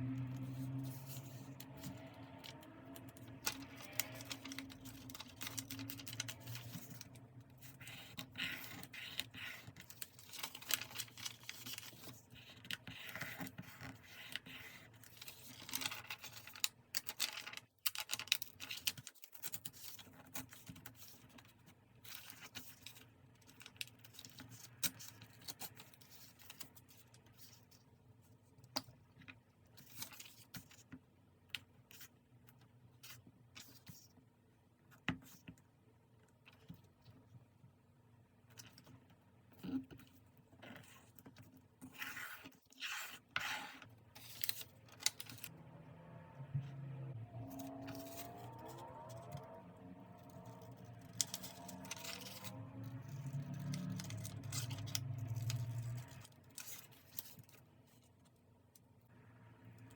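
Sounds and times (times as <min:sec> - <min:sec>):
paper rustling and scratching: 0:00.2 - 0:31.0, 0:38.5 - 0:45.5, 0:47.4 - 0:58.5.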